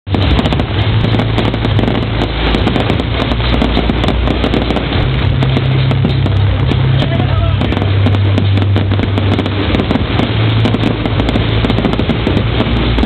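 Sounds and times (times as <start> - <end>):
fireworks crackling and bangs: 0.0 - 13.0
faint music: 0.1 - 13.0
low rumble: 0.1 - 13.0.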